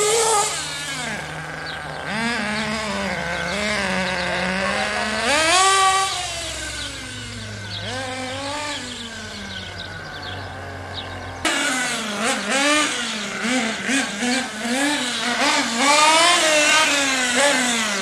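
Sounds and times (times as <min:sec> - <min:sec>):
small engine revving: 0:00.0 - 0:18.0.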